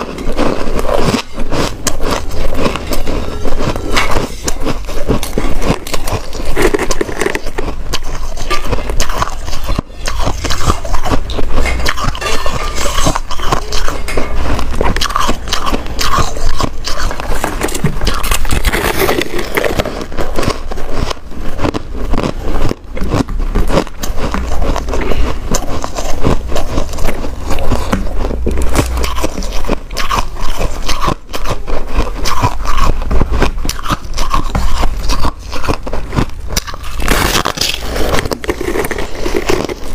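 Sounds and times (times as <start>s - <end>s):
crunching shaved ice: 0.0s - 39.9s.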